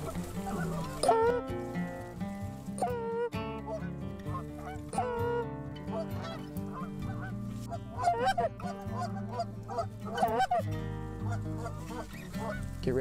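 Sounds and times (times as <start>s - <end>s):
geese honking and clucking: 0.0s - 13.0s.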